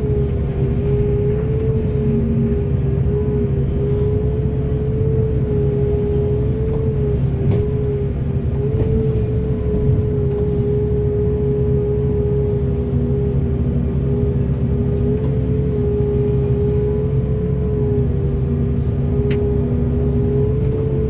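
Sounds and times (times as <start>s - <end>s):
excavator diesel engine running: 0.0s - 21.0s
high engine whine: 0.0s - 21.0s.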